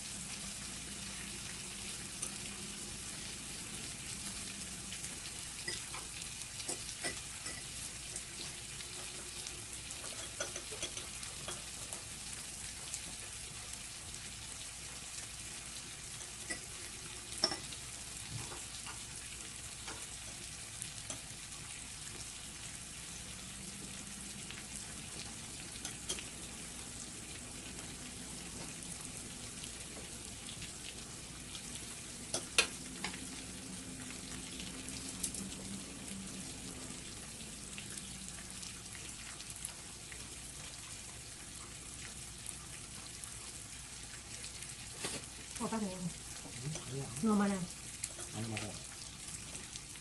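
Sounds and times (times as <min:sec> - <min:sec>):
food sizzling on a grill: 0:00.0 - 0:50.0.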